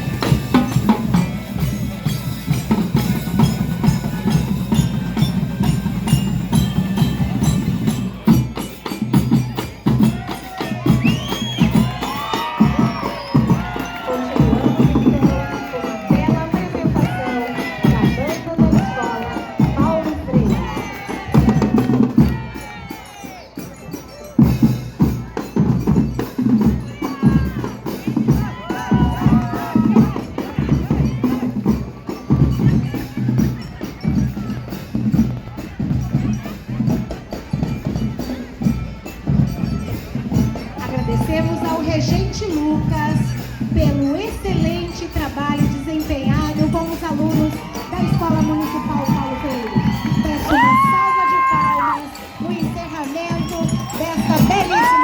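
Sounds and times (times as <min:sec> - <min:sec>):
drums beating steady rhythm: 0:00.0 - 0:55.0
marching band playing: 0:00.0 - 0:55.0.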